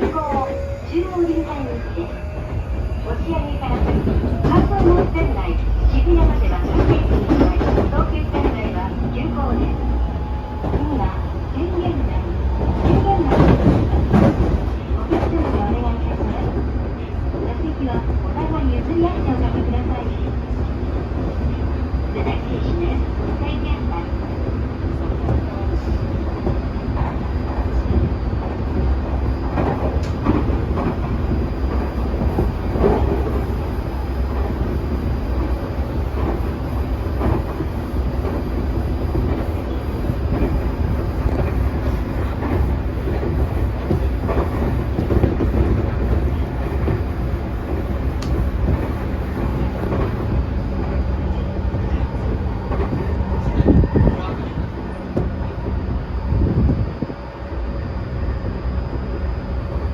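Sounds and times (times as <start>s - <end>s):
train motor hum: 0.0s - 16.4s, 23.4s - 59.9s
wheels rumbling on rail: 0.0s - 59.9s.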